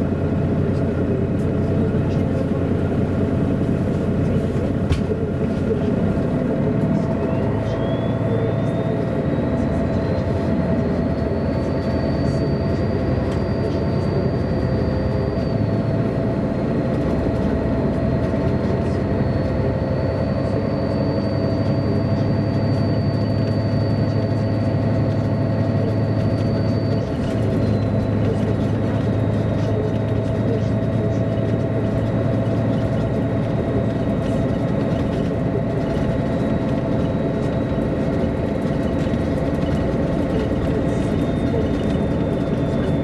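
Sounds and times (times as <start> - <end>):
bus engine drone: 0.0 - 43.0
high-pitched whine: 5.0 - 43.0.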